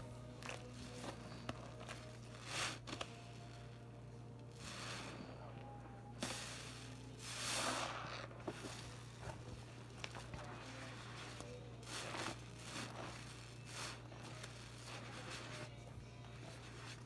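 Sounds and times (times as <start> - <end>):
low steady hum: 0.0 - 17.0
sponge squishing in soapy water: 0.4 - 3.7, 4.5 - 5.3, 6.2 - 17.0.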